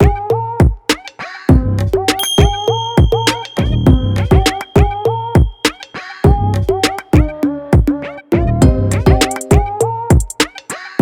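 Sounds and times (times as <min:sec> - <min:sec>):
electronic hip hop beat: 0:00.0 - 0:11.0.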